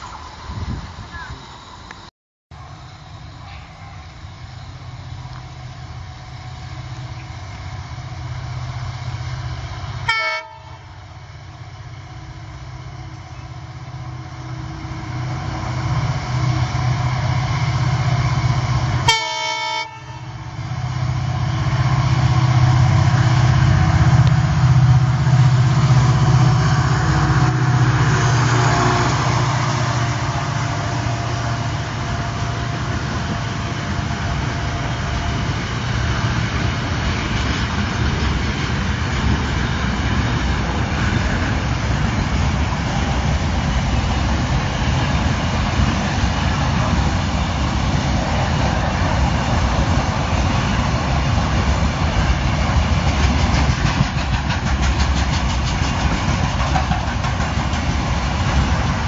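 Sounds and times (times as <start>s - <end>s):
locomotive engine rumble: 0.0s - 59.0s
rail and wagon noise: 0.0s - 59.0s.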